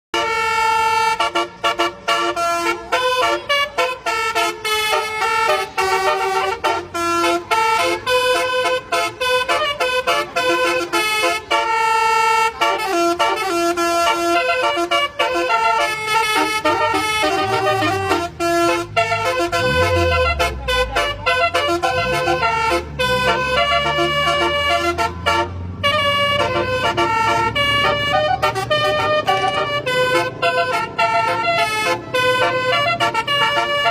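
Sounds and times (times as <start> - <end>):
multi-tone air horn tune: 0.1 - 33.9.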